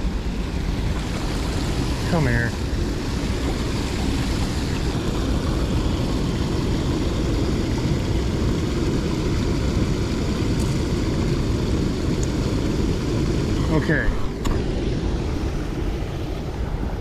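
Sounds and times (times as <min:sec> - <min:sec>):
water pouring from chute: 0:00.0 - 0:13.8.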